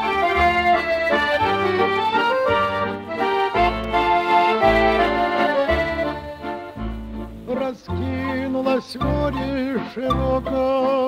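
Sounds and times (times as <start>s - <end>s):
accordion music: 0.0s - 11.0s.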